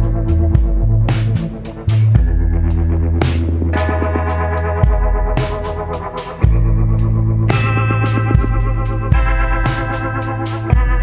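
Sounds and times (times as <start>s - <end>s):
deep bass: 0.0s - 11.0s
sustained synthesizer chords: 0.0s - 11.0s.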